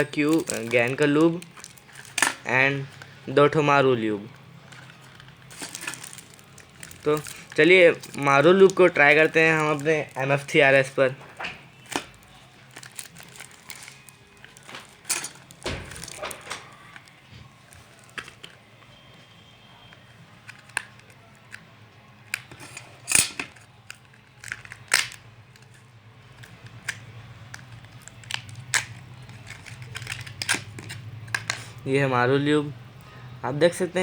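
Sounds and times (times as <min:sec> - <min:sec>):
bottle and packaging handling: 0:00.0 - 0:18.7, 0:22.3 - 0:31.8.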